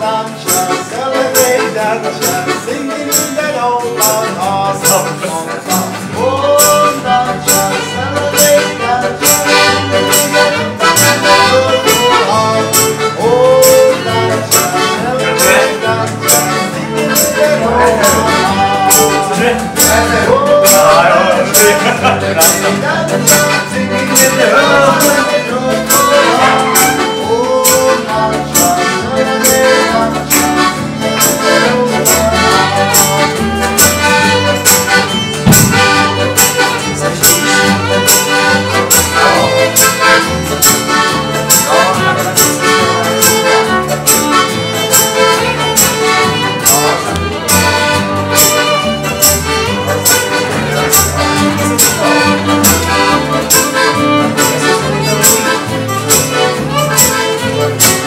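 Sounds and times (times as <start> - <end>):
accordion: 0.0 - 58.0
double bass: 0.0 - 58.0
fiddle: 0.0 - 58.0
rhythmic strokes beat: 0.0 - 58.0.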